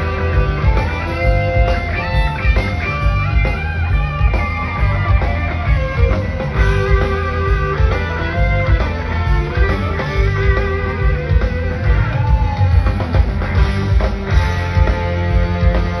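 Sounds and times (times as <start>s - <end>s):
electric guitar lead: 0.0s - 16.0s
rock band playing: 0.0s - 16.0s.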